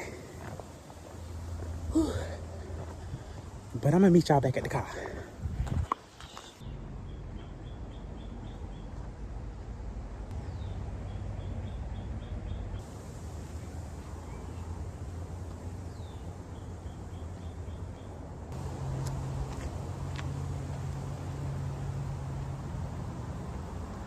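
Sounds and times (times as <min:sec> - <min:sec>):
low rumble of wind: 0:00.0 - 0:24.0.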